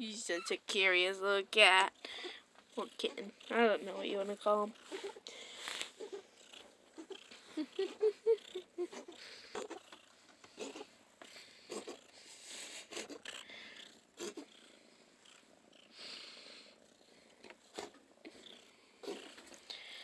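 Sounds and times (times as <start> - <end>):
cat purring softly: 1.0 - 20.0.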